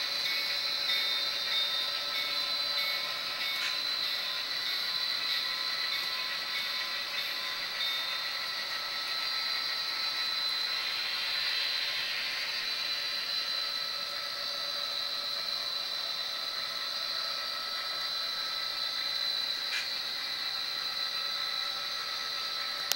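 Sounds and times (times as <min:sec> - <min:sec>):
constant high hiss: 0:00.0 - 0:22.9
model train cars rolling on track: 0:00.0 - 0:22.9.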